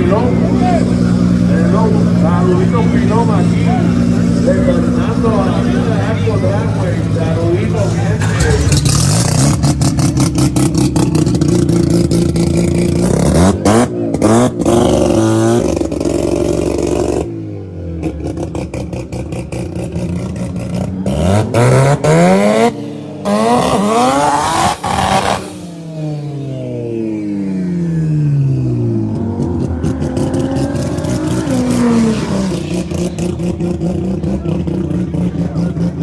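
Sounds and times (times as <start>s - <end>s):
drag car engines revving: 0.0s - 36.0s
engine crackling: 0.0s - 36.0s.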